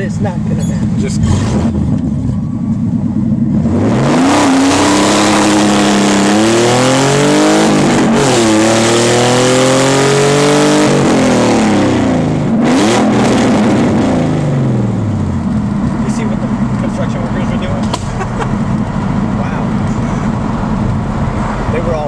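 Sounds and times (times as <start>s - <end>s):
loud car engine accelerating: 0.0s - 22.0s.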